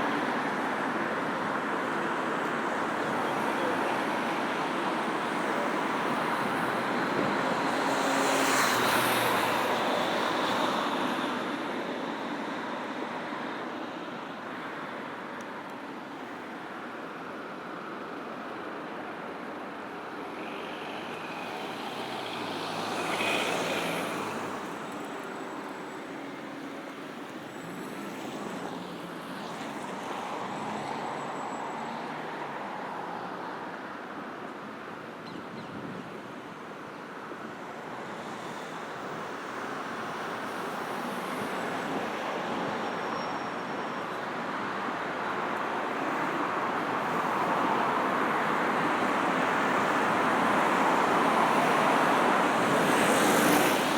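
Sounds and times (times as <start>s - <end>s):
road traffic passing: 0.0s - 35.1s, 35.8s - 53.9s.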